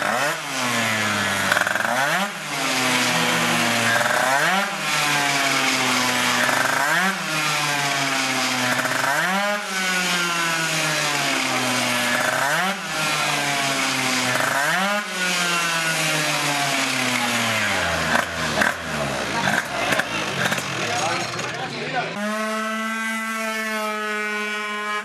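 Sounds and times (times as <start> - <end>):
two-stroke scooter engine revving: 0.0 - 25.0.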